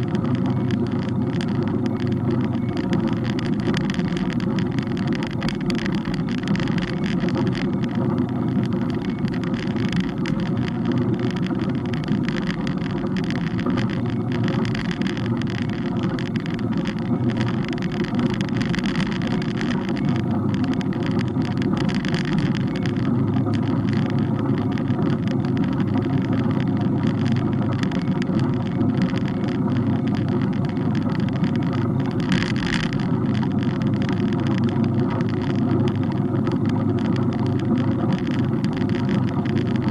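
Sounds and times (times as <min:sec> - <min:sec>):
bike wind and road noise: 0:00.0 - 0:39.9
fine crackling: 0:00.0 - 0:39.9.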